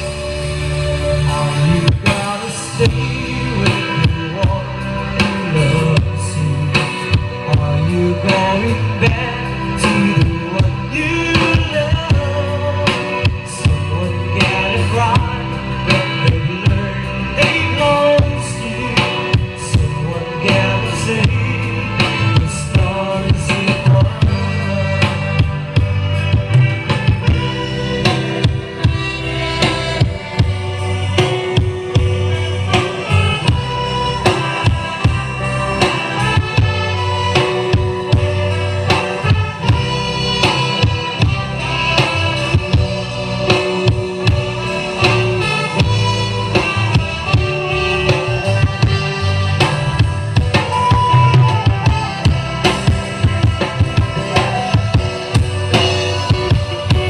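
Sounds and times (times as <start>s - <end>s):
drum kit beat: 0.0s - 57.0s
heavy sustained bass line: 0.0s - 57.0s.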